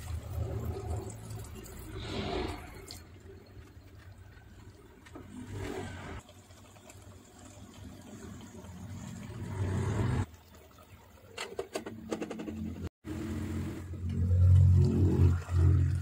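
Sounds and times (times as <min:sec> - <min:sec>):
pot bubbling: 0:00.0 - 0:16.0.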